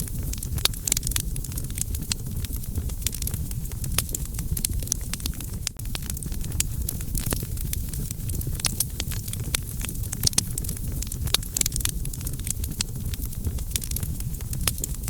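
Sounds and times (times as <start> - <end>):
campfire crackling: 0.0 - 15.0
low rumble of burning: 0.0 - 15.0.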